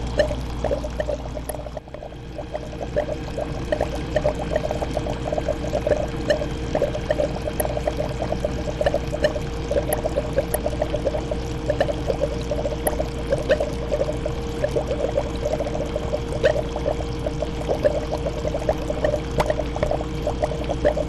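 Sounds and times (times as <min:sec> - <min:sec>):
aquarium water bubbling: 0:00.0 - 0:21.0
steady humming tone: 0:00.0 - 0:21.0.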